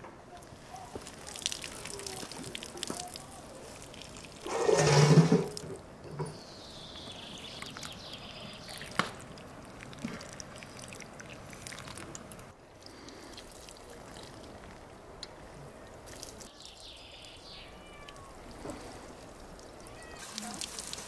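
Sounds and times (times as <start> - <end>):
water sprinkling onto leaves: 0.4 - 5.8, 6.6 - 21.0.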